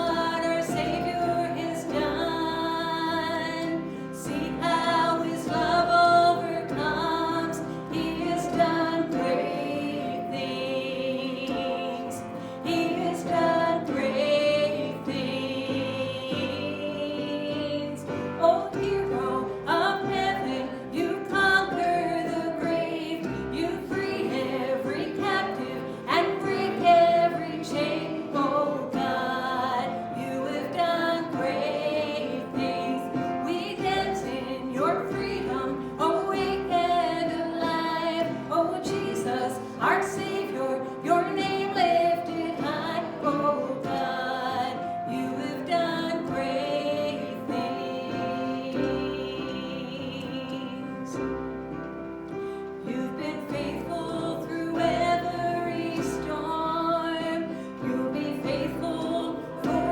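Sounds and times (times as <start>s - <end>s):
woman singing worship song: 0.0s - 51.5s, 52.7s - 59.9s
instrumental accompaniment: 0.0s - 59.9s.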